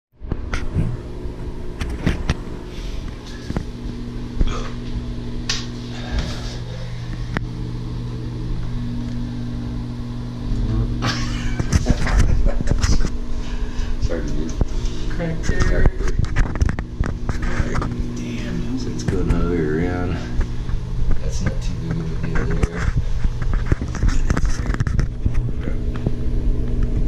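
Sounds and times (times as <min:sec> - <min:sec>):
low electrical hum: 0:00.2 - 0:27.0.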